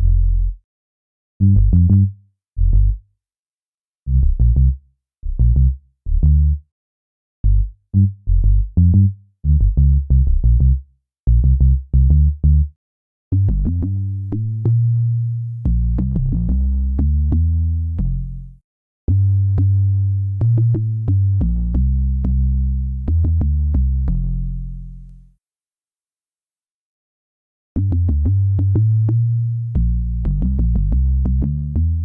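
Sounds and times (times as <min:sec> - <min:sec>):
electronic bass notes: 0:00.0 - 0:00.6, 0:01.4 - 0:03.0, 0:04.1 - 0:06.6, 0:07.4 - 0:12.7, 0:13.3 - 0:25.2, 0:27.8 - 0:32.0.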